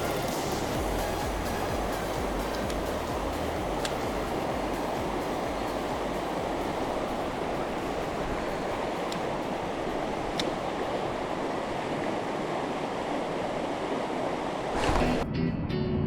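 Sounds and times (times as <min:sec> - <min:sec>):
stream rushing over rocks: 0:00.0 - 0:15.2.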